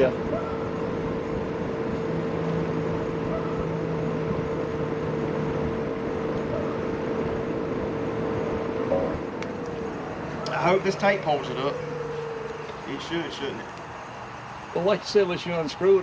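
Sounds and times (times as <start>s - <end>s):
low hum: 0.0s - 14.9s
motor humming: 0.0s - 16.0s.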